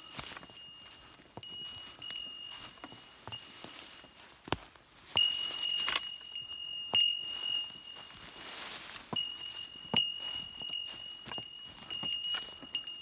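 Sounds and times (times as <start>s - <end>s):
bell jingling: 0.0s - 4.2s, 5.1s - 13.0s
footsteps in dry leaves: 0.0s - 13.0s.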